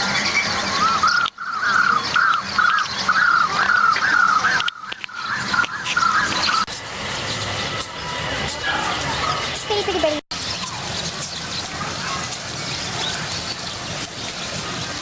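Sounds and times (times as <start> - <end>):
bird calls rising and falling: 0.0 - 15.0
high-pitched bird chatter: 0.1 - 15.0.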